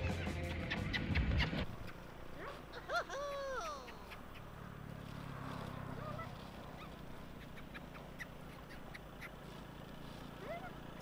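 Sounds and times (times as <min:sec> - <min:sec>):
short animal calls and chirps: 0:00.8 - 0:04.6, 0:05.9 - 0:11.0.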